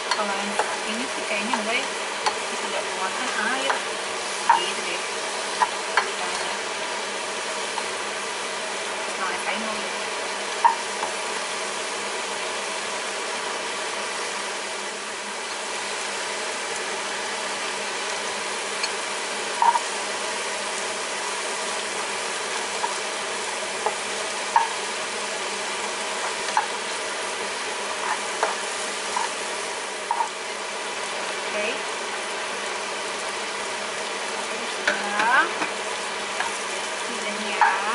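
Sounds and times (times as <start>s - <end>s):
mushrooms and onion sizzling: 0.0s - 37.9s.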